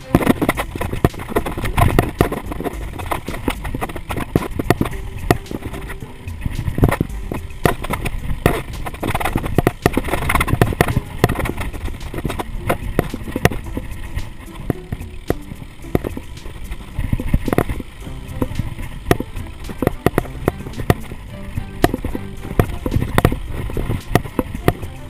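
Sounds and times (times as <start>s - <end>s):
mountain bike rattling on rock: 0.0s - 25.0s
steady low rumble: 0.0s - 25.0s.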